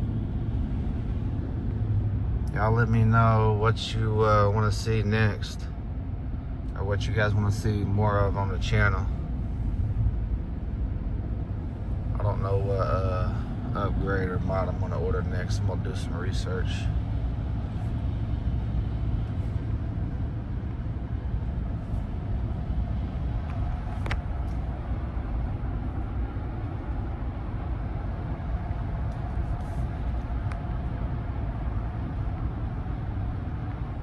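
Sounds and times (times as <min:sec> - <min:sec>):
low engine rumble in cab: 0:00.0 - 0:34.0
road and rain hiss: 0:00.0 - 0:34.0.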